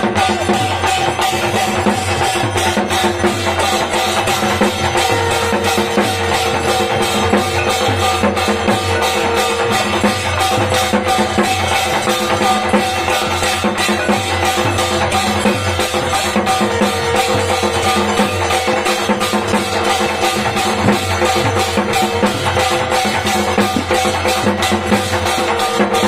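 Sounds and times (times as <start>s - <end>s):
held ringing tone: 0.0s - 26.0s
metallic ringing: 0.0s - 26.0s
rhythmic drumming: 0.0s - 26.0s.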